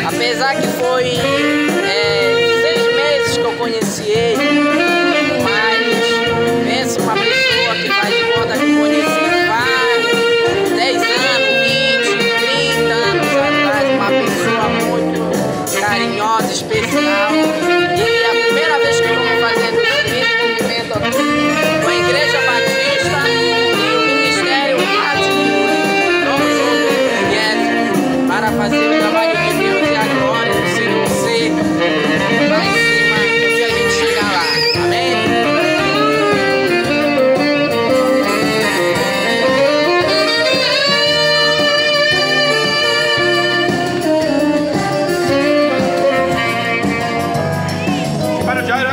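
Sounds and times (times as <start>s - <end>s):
tenor saxophone melody: 0.0s - 48.9s.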